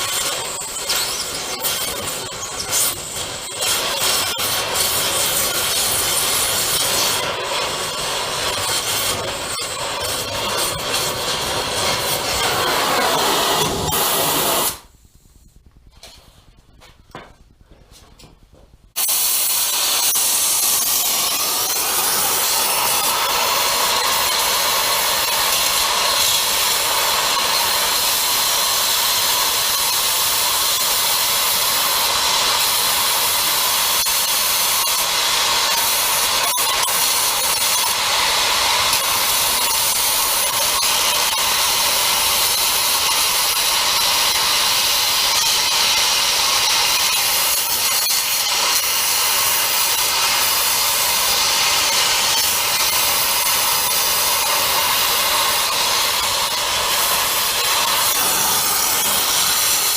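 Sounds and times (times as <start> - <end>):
cutting torch hissing: 0.0 - 15.0, 18.9 - 59.9.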